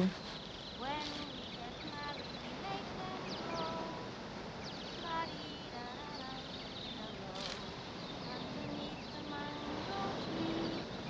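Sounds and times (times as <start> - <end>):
bird-like chirps: 0.0 - 11.0
insects buzzing: 0.0 - 11.0.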